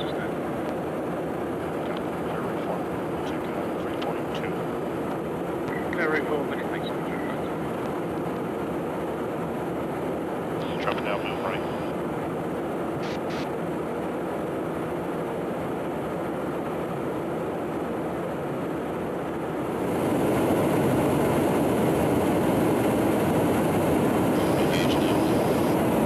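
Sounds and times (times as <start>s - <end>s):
airflow and engine roar in aircraft: 0.0s - 26.0s.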